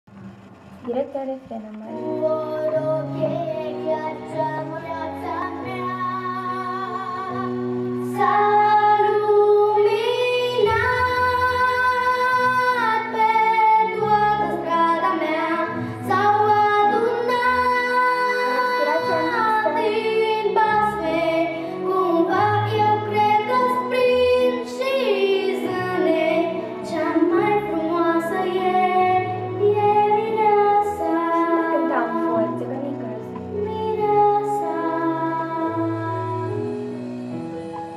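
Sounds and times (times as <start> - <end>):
backing track: 0.0 - 37.9
girl singing into microphone: 1.8 - 36.6.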